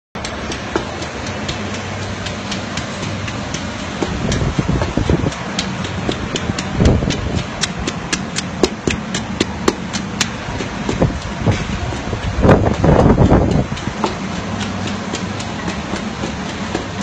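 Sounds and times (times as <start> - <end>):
pestle pounding in a mortar: 0.2 - 17.0
steady rushing background: 0.2 - 17.0.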